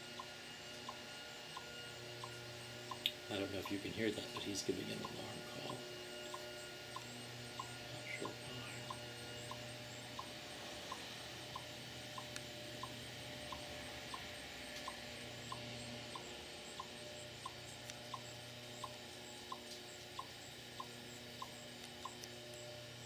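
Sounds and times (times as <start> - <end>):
chipmunk alarm chips: 0.1 - 23.0.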